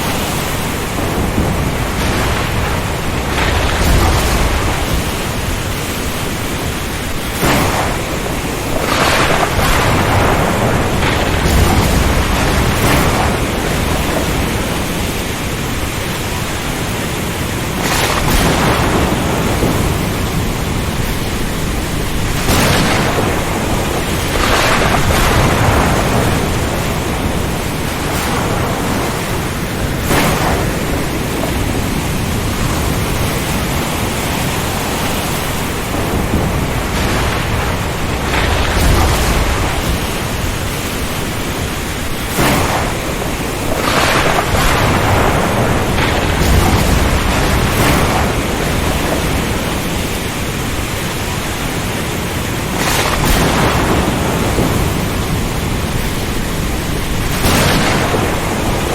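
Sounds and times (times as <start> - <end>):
heavy rain: 0.0 - 58.9
strong wind: 0.0 - 58.9
thunder cracks and rumbles: 0.0 - 58.9.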